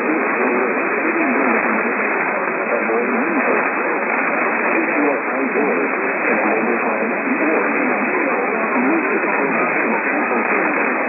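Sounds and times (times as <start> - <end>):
muffled talk over radio: 0.0 - 11.0
radio static hiss: 0.0 - 11.0.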